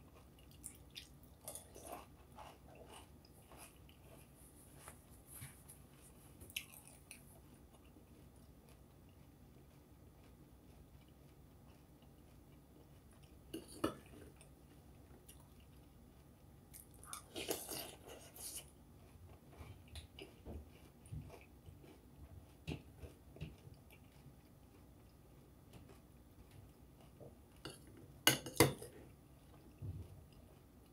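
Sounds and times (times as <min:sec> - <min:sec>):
person chewing crunchy cereal: 0:00.0 - 0:05.0, 0:05.8 - 0:28.2.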